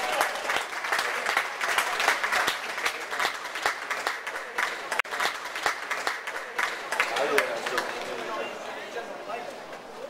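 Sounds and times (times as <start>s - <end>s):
spectators applauding: 0.0s - 8.4s
crowd noise: 0.0s - 10.0s.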